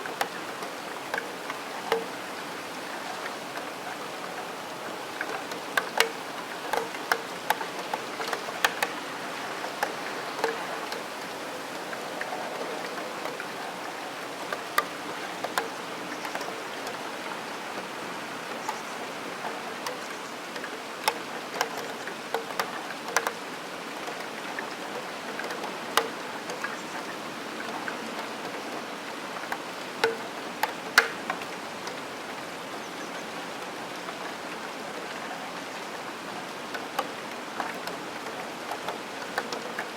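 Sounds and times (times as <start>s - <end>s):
raindrops ticking on metal sill: 0.0s - 32.3s, 36.2s - 39.9s
rain hiss: 0.0s - 39.9s.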